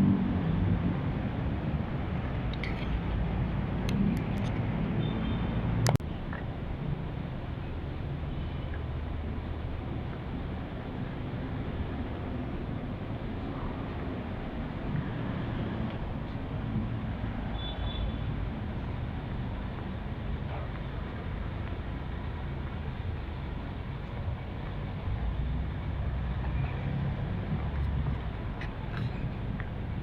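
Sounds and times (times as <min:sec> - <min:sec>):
vehicle rumble with road noise: 0:00.0 - 0:30.0.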